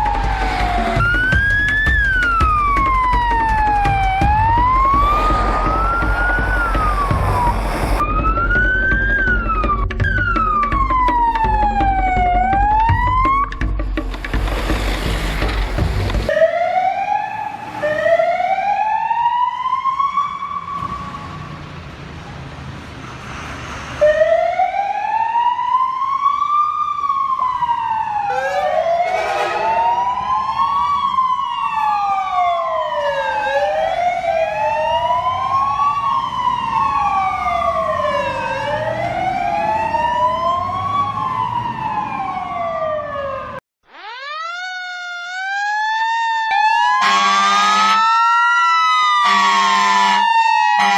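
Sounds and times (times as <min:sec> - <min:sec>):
sirens wailing: 0:00.0 - 0:13.8, 0:16.2 - 0:22.0, 0:23.5 - 0:50.9.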